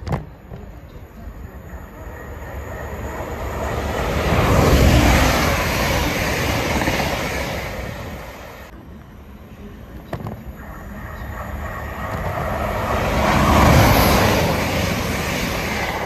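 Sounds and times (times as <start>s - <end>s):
departing train: 0.0s - 16.0s
diesel train passing: 0.0s - 16.0s.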